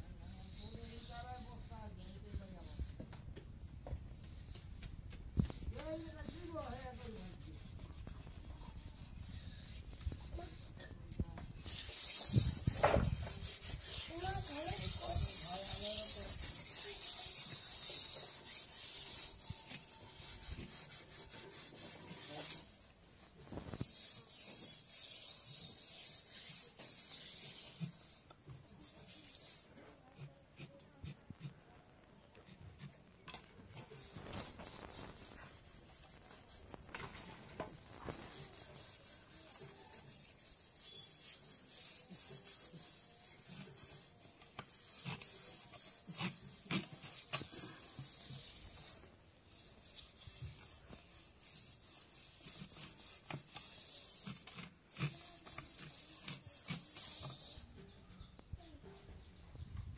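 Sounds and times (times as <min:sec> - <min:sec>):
rough rubbing and scraping: 0:00.0 - 0:03.1, 0:03.8 - 0:31.6, 0:32.4 - 0:58.3.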